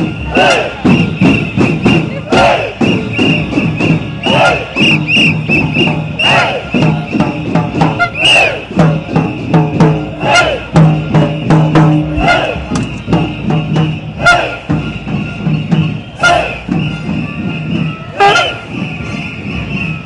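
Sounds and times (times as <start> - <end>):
crowd shouting: 0.0 - 20.0
drums beating: 0.0 - 20.0
horns blowing: 0.0 - 20.0
whistles blowing: 0.0 - 20.0.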